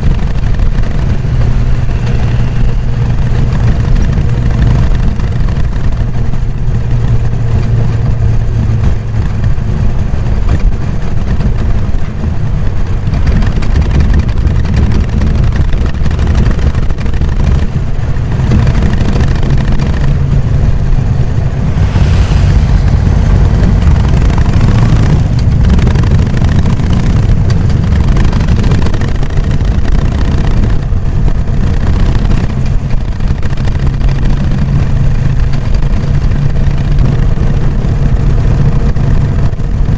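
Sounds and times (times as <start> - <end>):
motorcycle engine deep pulsing: 0.0 - 39.9.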